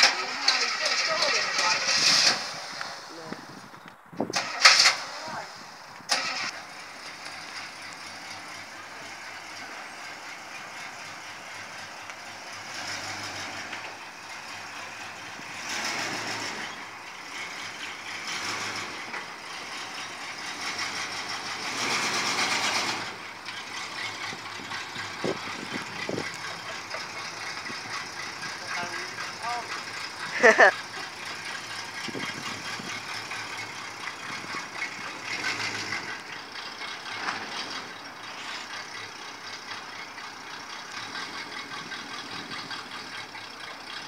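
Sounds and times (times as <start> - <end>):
pickup truck engine revving: 0.0 - 44.0.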